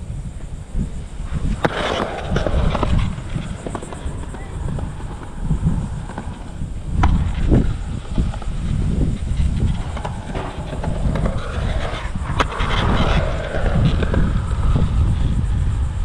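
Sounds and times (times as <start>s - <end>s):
skateboard wheels rolling on concrete: 0.0s - 16.0s
low rumble: 0.9s - 16.0s
skateboard clacks: 1.3s - 15.0s.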